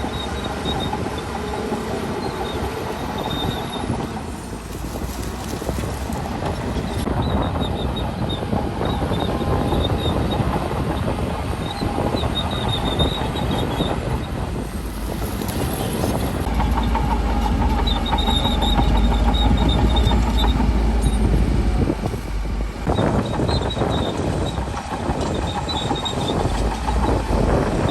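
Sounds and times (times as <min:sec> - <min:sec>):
clanking squeaking steel tracks: 0:00.0 - 0:27.9
diesel engine under load: 0:00.0 - 0:27.9.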